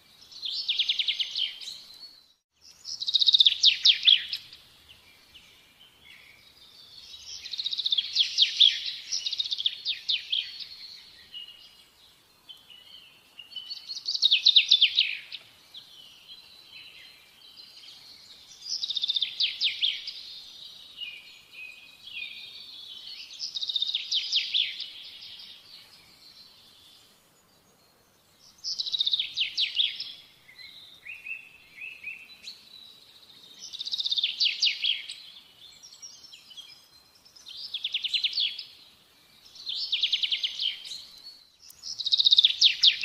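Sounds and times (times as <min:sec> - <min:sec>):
small bird trilling song: 0:00.2 - 0:04.6, 0:06.0 - 0:11.8, 0:12.5 - 0:27.0, 0:28.5 - 0:33.0, 0:33.6 - 0:38.8, 0:39.4 - 0:43.0.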